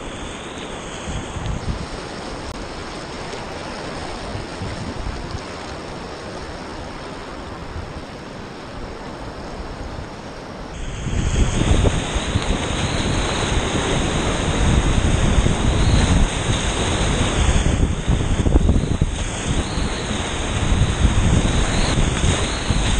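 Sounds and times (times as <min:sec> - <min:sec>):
churning whitewater rapid: 0:00.0 - 0:22.9
river water rushing: 0:00.0 - 0:22.9.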